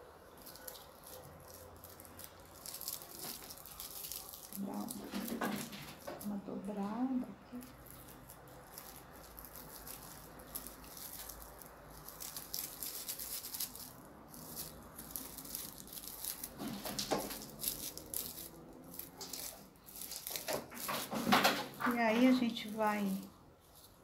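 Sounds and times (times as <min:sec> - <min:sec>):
dry corn husk crackling: 0:00.0 - 0:24.0.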